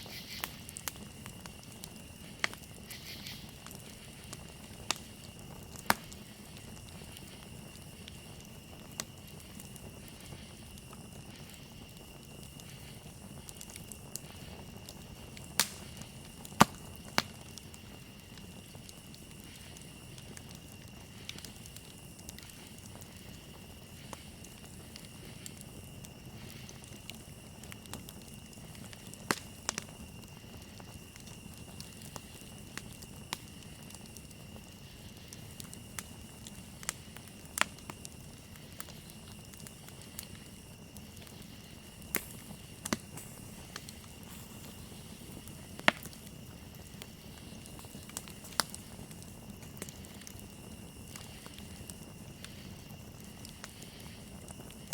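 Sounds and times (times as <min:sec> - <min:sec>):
campfire crackling and popping: 0:00.0 - 0:54.9
crickets trilling: 0:00.0 - 0:54.9.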